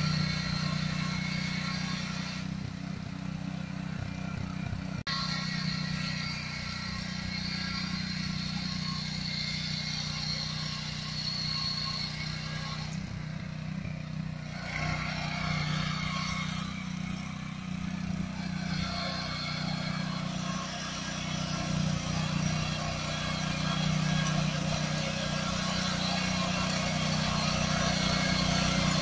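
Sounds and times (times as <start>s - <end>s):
petrol engine running: 0.0s - 29.0s.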